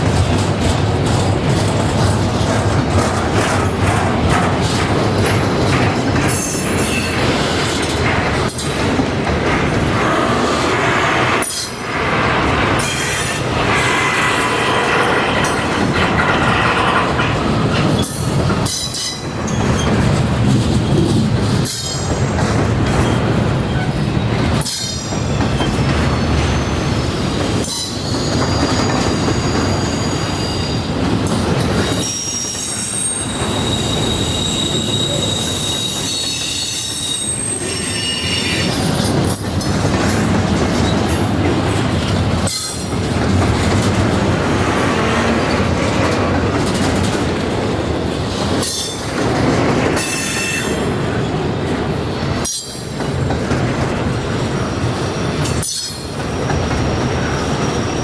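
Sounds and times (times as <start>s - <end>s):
train cars rumbling past: 0.0s - 58.0s
wheels squealing on rail: 3.4s - 47.1s, 48.1s - 58.0s.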